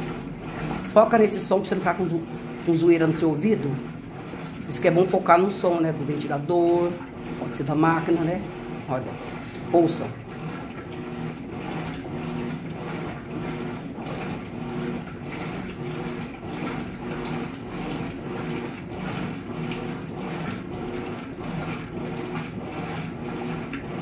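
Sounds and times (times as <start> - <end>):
rhythmic swishing of water: 0.0 - 24.0
washing machine motor hum: 0.0 - 24.0.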